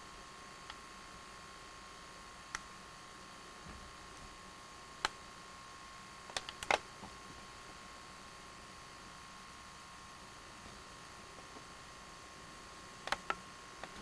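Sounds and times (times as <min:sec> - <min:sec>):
camcorder hiss and hum: 0:00.0 - 0:14.0.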